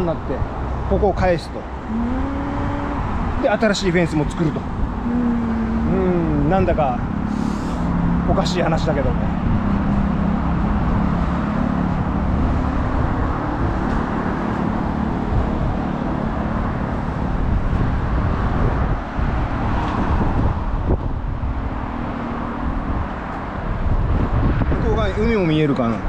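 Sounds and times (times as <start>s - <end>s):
cars passing on busy road: 0.0s - 26.0s.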